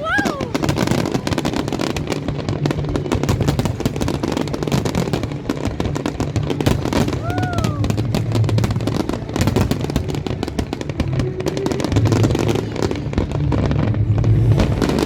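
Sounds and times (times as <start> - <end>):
fireworks crackles and pops: 0.0 - 15.0.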